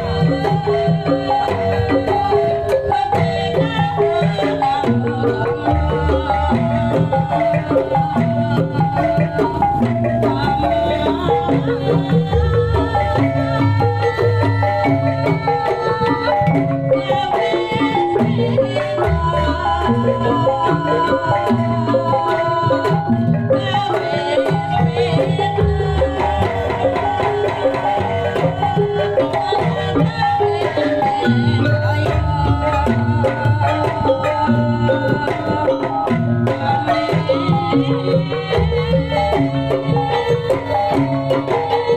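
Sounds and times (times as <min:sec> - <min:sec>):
hand drums beating: 0:00.0 - 0:41.9
tuned metal percussion melody: 0:00.0 - 0:41.9.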